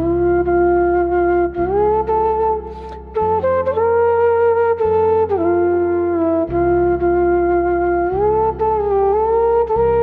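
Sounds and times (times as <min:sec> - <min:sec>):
melody of long held notes: 0:00.0 - 0:10.0.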